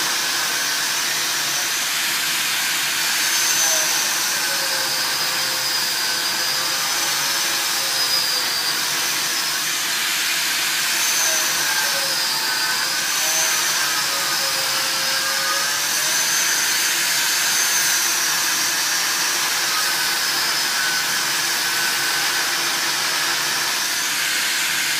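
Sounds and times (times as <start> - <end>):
angle grinder grinding steel: 0.0 - 24.9.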